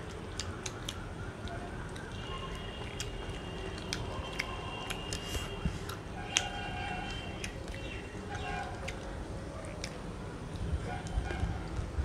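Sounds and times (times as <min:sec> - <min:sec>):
fingers mixing rice on plates: 0:00.0 - 0:11.5
chewing: 0:00.0 - 0:11.8.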